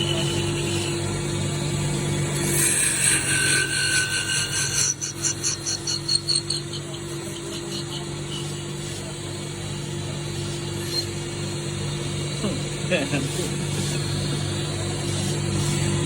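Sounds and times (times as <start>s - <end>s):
lathe motor running: 0.0s - 16.0s
tool scraping spinning wood: 0.0s - 16.0s.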